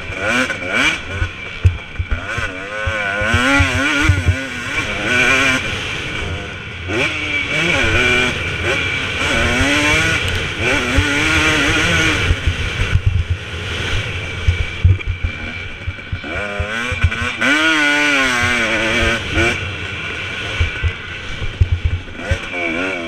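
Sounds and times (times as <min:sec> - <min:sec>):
motocross engine revving: 0:00.0 - 0:23.0.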